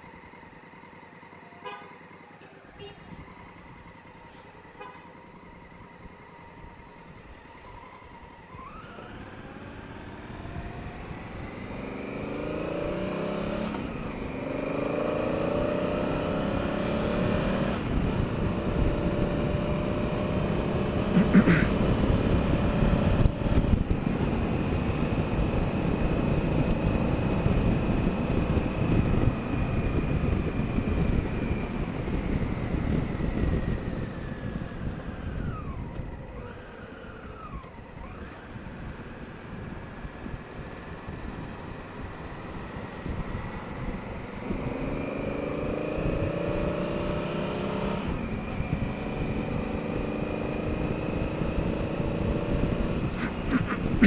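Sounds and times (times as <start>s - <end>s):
wind and road noise: 0.0s - 54.0s
motorcycle engine accelerating: 7.4s - 54.0s.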